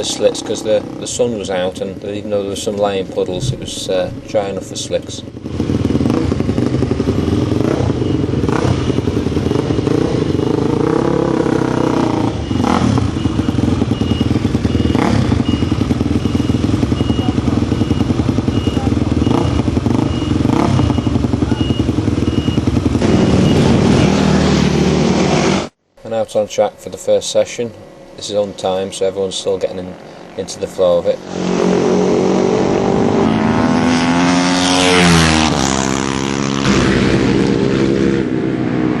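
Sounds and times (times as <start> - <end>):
racing motorcycle engines revving: 0.0 - 25.8, 27.2 - 39.0.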